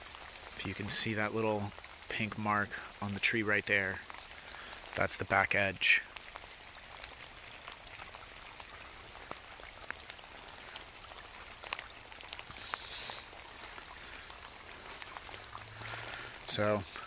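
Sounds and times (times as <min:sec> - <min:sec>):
steady rain in woodland: 0:00.0 - 0:17.0.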